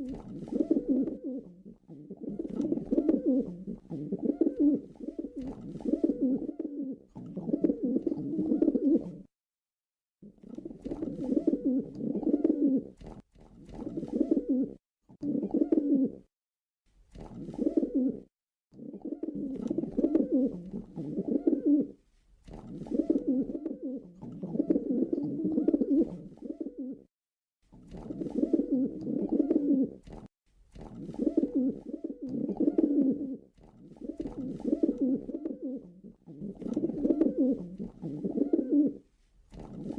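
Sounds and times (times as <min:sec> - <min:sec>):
pigeon cooing: 0:00.0 - 0:09.3, 0:10.3 - 0:13.0, 0:13.7 - 0:16.3, 0:17.2 - 0:22.0, 0:22.6 - 0:27.1, 0:27.9 - 0:30.2, 0:31.0 - 0:39.9.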